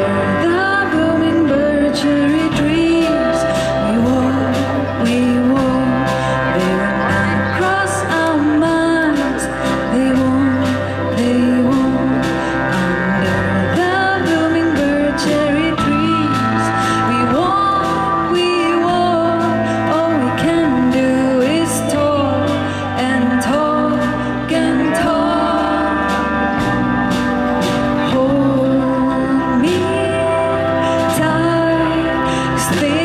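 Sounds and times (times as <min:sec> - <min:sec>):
bass: 0:00.0 - 0:33.0
cello: 0:00.0 - 0:33.0
drum kit beat: 0:00.0 - 0:33.0
guitars: 0:00.0 - 0:33.0
keyboard: 0:00.0 - 0:33.0
woman singing lead: 0:00.0 - 0:33.0.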